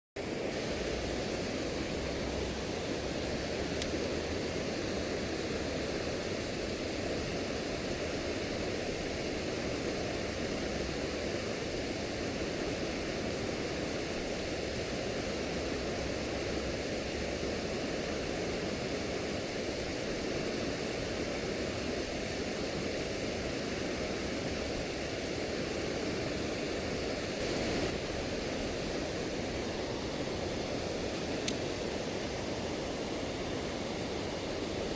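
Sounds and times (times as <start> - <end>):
rushing river water: 0.2 - 34.9.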